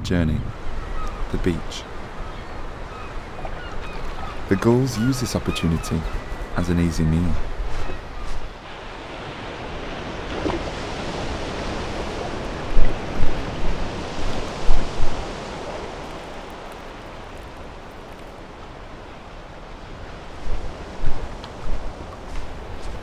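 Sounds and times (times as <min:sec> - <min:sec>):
wind: 0:00.0 - 0:23.0
sea waves splashing: 0:00.5 - 0:23.0.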